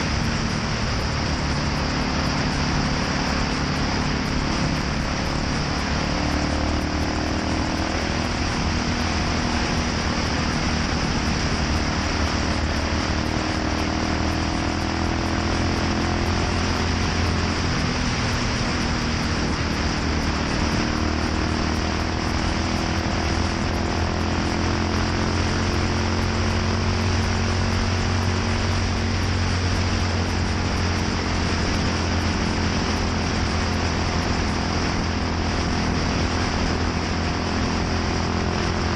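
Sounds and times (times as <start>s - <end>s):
motorcycle engine exhaust note: 0.0s - 38.9s.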